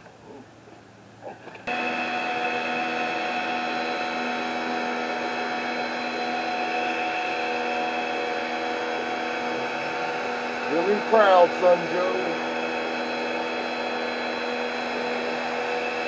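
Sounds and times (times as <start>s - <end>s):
pressure washer motor whine: 1.7s - 16.0s.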